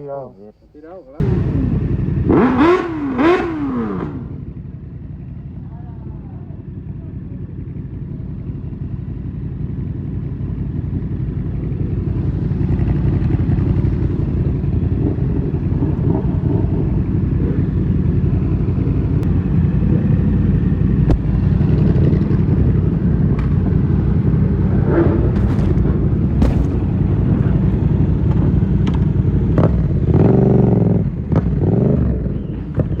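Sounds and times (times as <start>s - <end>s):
motorcycle engine running: 1.2s - 33.0s.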